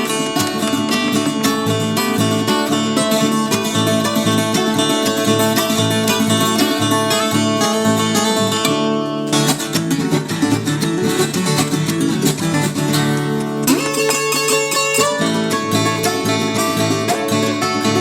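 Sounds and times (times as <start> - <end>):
plucked acoustic guitar music: 0.0 - 18.0.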